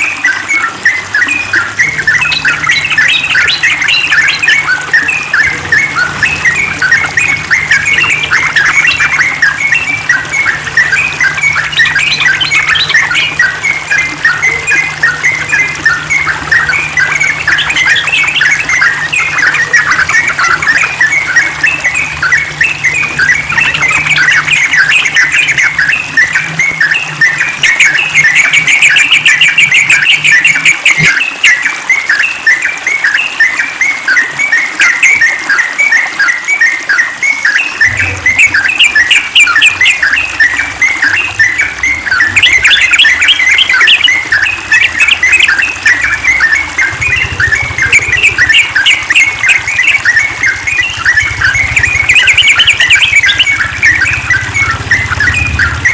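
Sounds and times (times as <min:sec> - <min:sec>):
bird singing chattering notes: 0:00.0 - 0:55.9.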